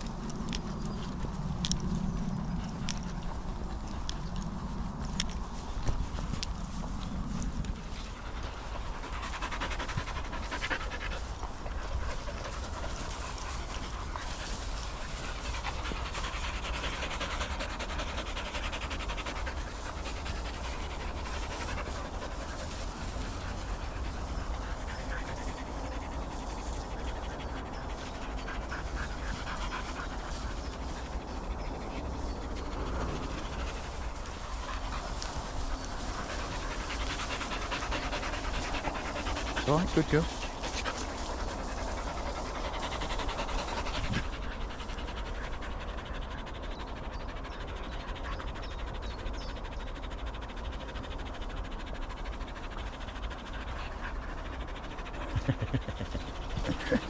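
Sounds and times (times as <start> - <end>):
dogs panting: 0.0 - 57.0.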